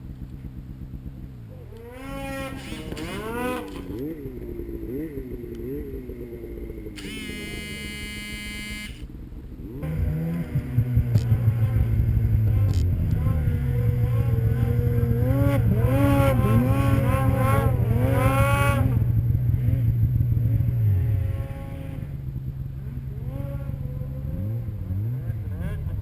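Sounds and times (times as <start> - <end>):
snowmobile engines revving: 1.4 - 26.0.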